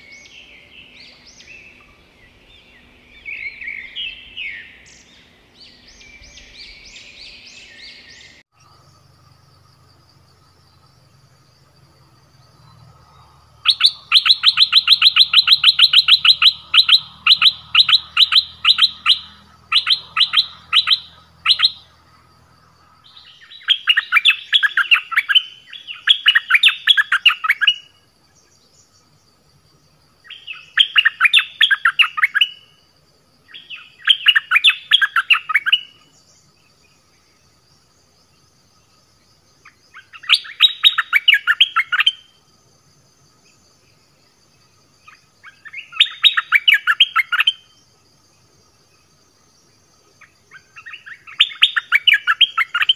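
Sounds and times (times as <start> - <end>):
bird singing whistled notes: 0.0 - 9.1, 12.0 - 29.2, 30.2 - 32.8, 33.5 - 37.5, 39.6 - 42.4, 43.5 - 47.9, 50.2 - 52.9
insect drone: 0.0 - 52.9.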